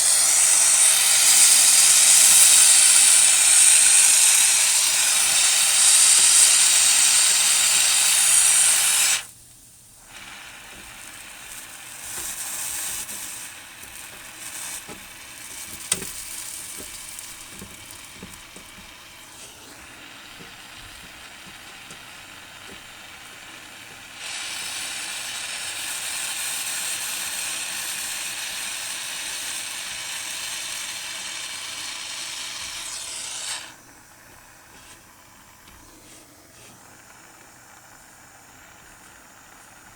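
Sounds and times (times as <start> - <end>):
gas torch flame hissing: 0.0 - 39.9.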